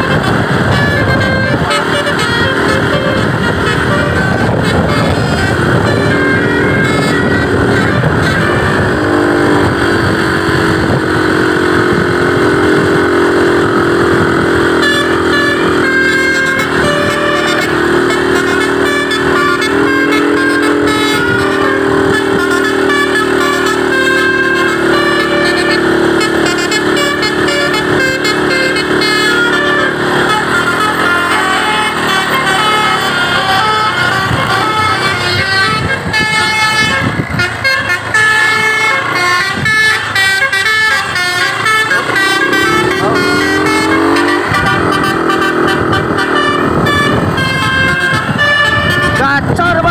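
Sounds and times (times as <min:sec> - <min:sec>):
musical bus horn tune: 0:00.0 - 0:49.9.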